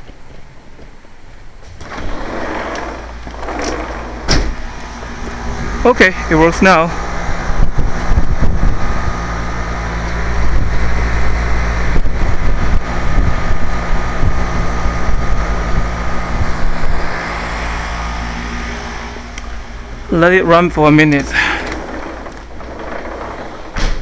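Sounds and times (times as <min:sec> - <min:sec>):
fan air rushing: 0:00.0 - 0:24.0
motor hum: 0:00.0 - 0:24.0.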